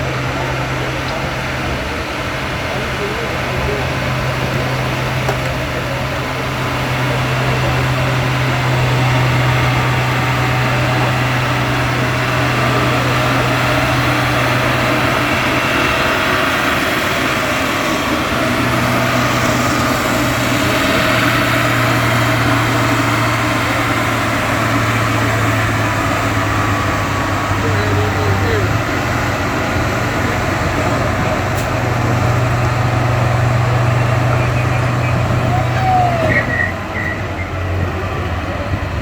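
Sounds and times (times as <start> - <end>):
tractor engine running under load: 0.0 - 39.0.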